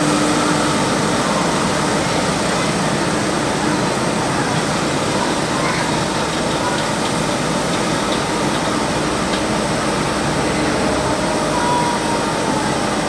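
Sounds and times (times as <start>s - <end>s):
diesel excavator engines droning: 0.0s - 13.0s.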